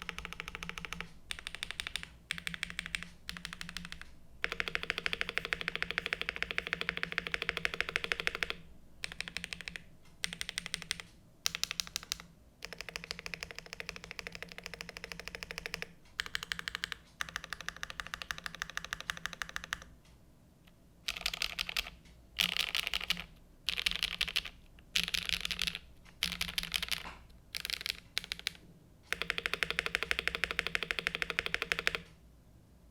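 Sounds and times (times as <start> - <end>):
typing on mechanical keyboard: 0.0 - 19.9, 21.1 - 32.1.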